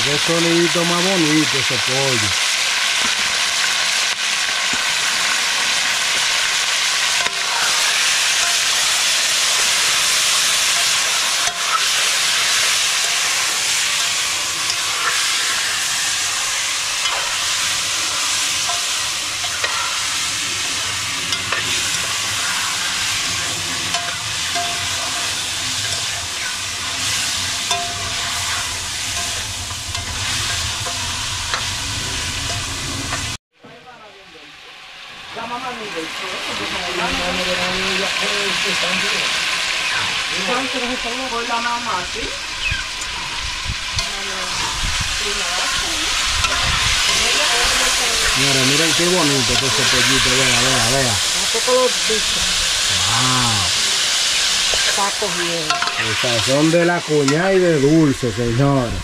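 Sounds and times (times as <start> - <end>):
chicken frying in hot oil: 0.0 - 33.4, 34.6 - 59.0
oil popping and crackling: 0.0 - 33.4, 37.0 - 58.2.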